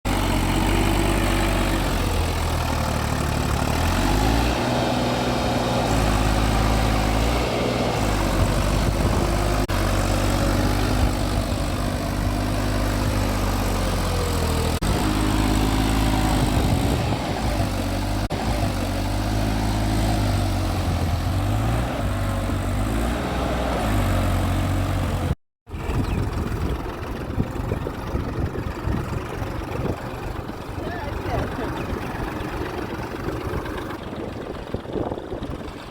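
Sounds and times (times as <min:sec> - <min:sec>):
diesel engine running under load: 0:00.1 - 0:35.9.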